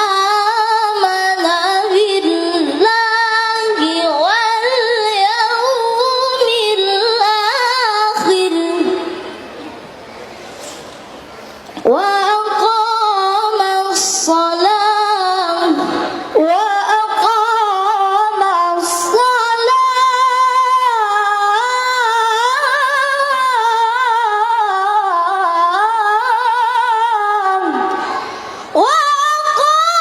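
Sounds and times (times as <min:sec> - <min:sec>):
woman reciting melodically: 0:00.0 - 0:09.4, 0:11.8 - 0:30.0.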